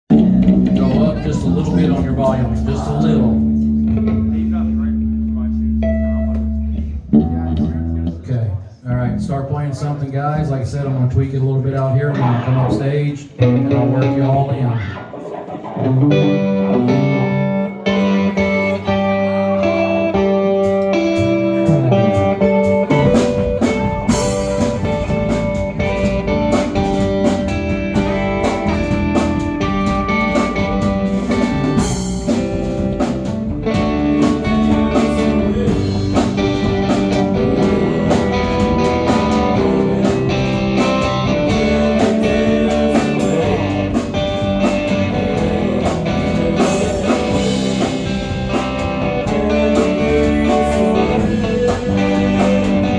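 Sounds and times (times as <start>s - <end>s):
bass guitar: 0.0s - 52.9s
drum kit: 0.1s - 5.4s, 6.1s - 52.9s
electric guitar: 0.1s - 52.9s.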